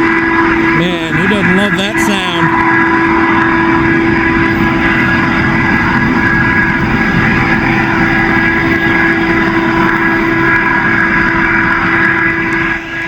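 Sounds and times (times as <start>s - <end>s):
freight train passing: 0.0s - 13.0s
steel wheels on rail: 0.0s - 13.0s.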